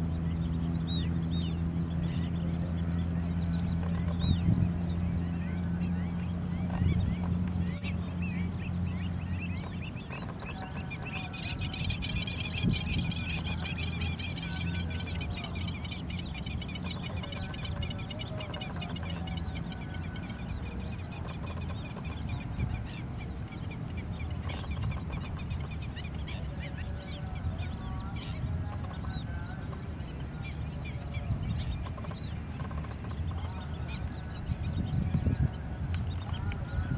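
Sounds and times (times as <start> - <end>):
flock of birds calling: 0.0 - 36.9
steady low hum: 0.0 - 36.9.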